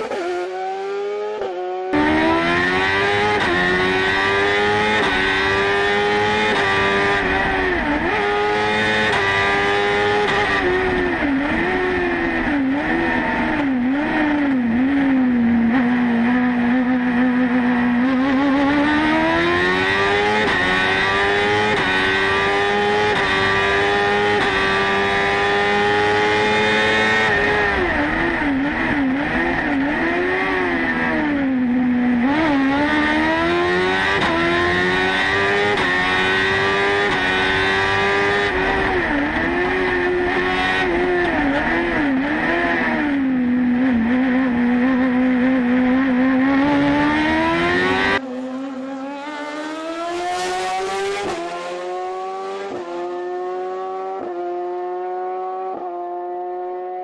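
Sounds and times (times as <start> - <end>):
high-revving engine accelerating: 0.0 - 57.0.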